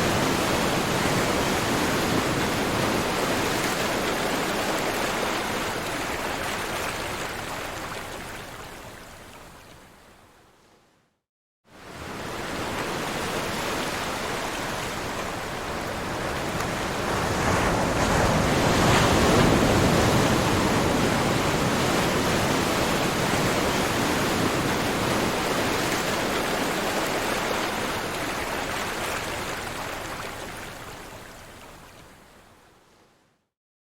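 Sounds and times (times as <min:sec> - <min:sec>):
ocean waves rushing: 0:00.0 - 0:08.2, 0:11.8 - 0:31.2.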